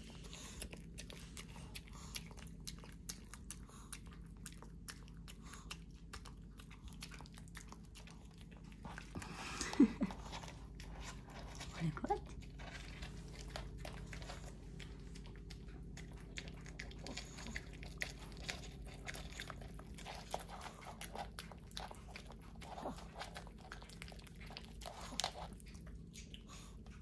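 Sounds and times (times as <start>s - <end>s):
dogs chewing wetly: 0.0s - 27.0s.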